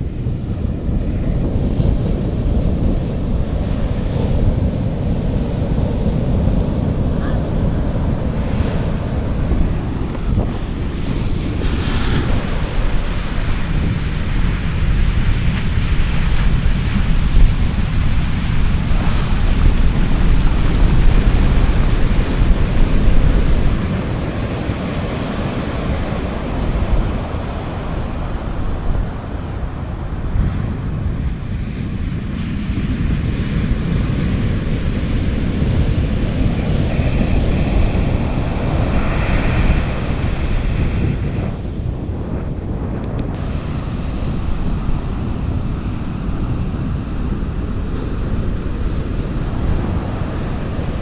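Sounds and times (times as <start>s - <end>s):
sea waves washing on beach: 0.0s - 51.0s
wind rumbling on microphone: 0.0s - 51.0s.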